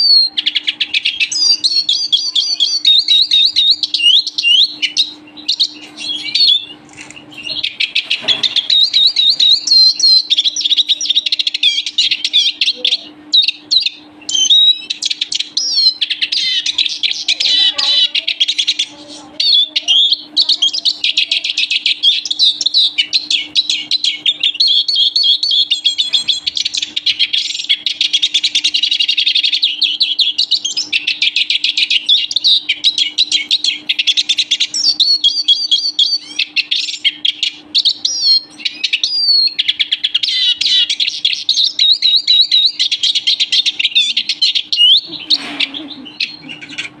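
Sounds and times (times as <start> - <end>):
bird twittering song: 0.0 - 47.0
faint steady hum: 0.0 - 47.0.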